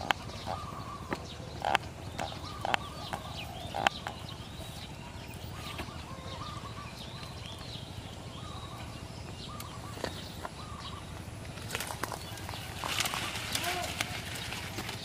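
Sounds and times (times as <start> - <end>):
birds chirping: 0.0 - 15.0
low background hum: 0.0 - 15.0.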